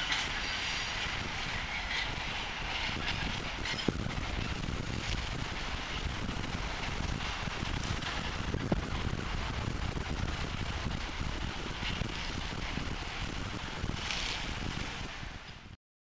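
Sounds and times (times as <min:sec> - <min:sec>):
freight train rumbling: 0:00.0 - 0:15.8.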